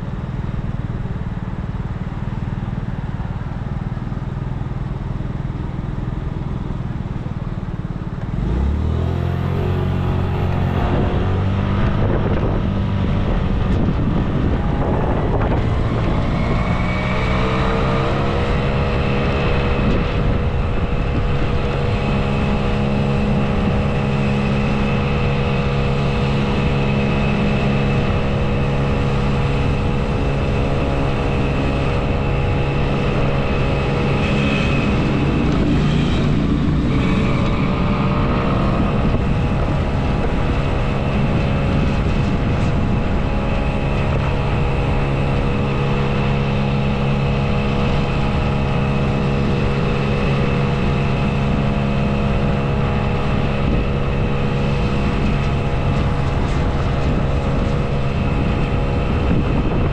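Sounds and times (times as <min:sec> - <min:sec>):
engine low hum: 0:00.0 - 0:59.9
high steady whine: 0:00.0 - 0:59.9.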